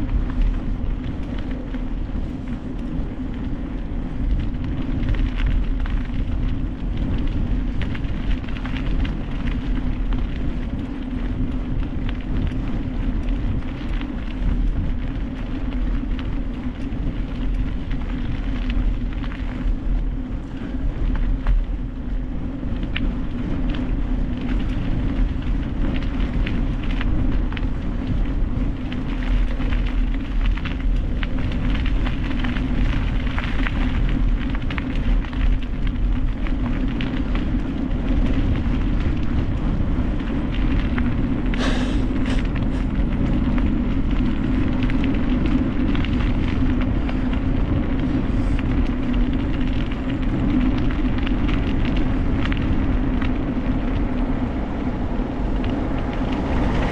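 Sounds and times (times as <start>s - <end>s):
bike rattles and clicks: 0.0s - 56.9s
bike tyre hum: 0.0s - 56.9s
wind on microphone: 0.0s - 56.9s.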